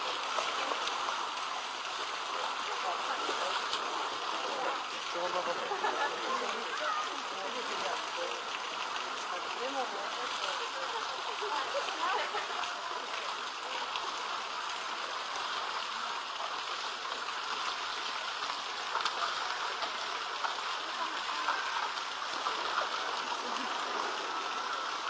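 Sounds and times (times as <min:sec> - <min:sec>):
elephants splashing in water: 0:00.0 - 0:14.2, 0:17.6 - 0:25.0
rushing water: 0:00.0 - 0:25.0
trunk slapping water: 0:00.0 - 0:25.0.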